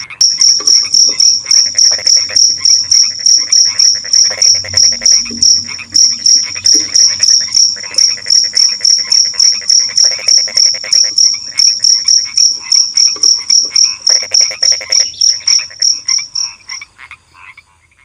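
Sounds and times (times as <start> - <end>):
cricket chirping: 0.0 - 17.7
frogs calling in trills: 0.0 - 18.0.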